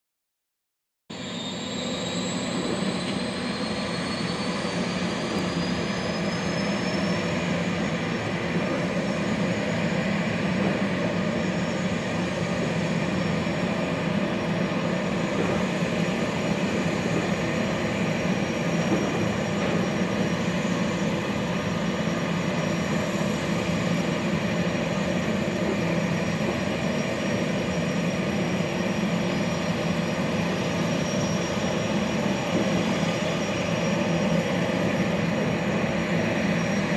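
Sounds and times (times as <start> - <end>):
gas turbines rushing and humming: 1.1 - 36.9
high turbine whine: 1.1 - 36.9.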